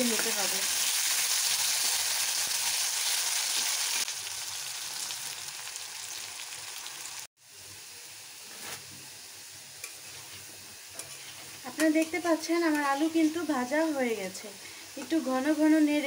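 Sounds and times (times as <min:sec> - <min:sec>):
potato wedges sizzling in oil: 0:00.0 - 0:16.0.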